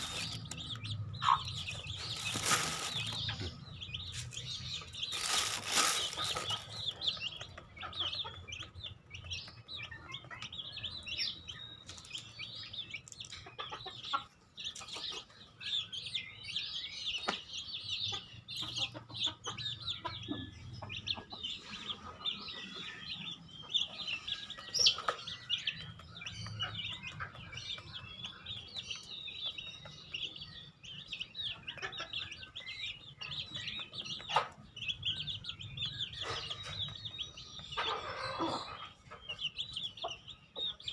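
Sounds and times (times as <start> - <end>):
chickens clucking: 0.0 - 40.9
high chirps and peeps: 0.0 - 40.9.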